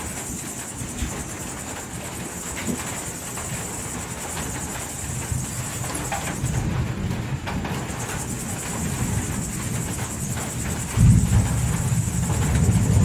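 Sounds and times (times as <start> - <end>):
crickets trilling: 0.0 - 13.0
rain hiss: 0.0 - 13.0.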